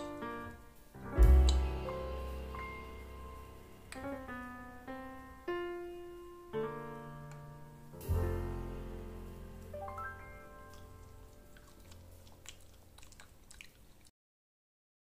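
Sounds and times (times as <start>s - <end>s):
piano notes and chords: 0.0s - 12.5s.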